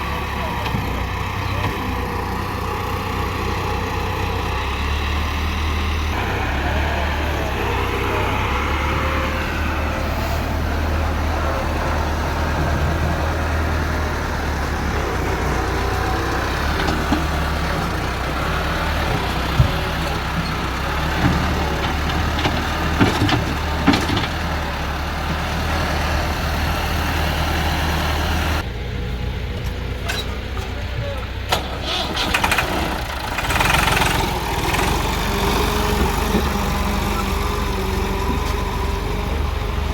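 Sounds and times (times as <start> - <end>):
diesel machinery engine humming: 0.0 - 39.9.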